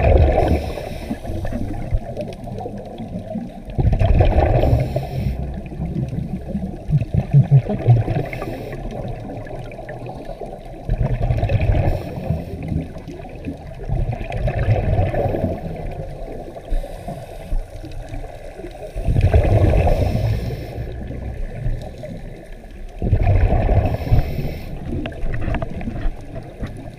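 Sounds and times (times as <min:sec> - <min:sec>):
underwater regulator bubbles: 0:00.0 - 0:26.9.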